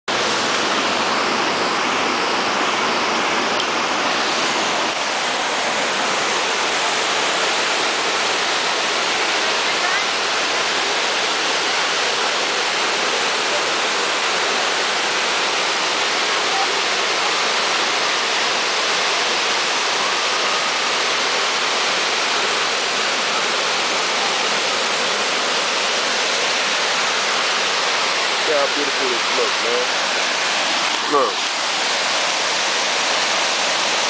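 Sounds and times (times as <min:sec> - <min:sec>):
waterfall rushing: 0:00.1 - 0:34.0.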